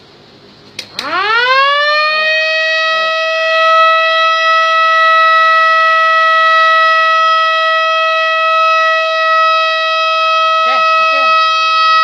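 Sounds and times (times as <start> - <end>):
fire alarm continuous tone: 0.8 - 12.0.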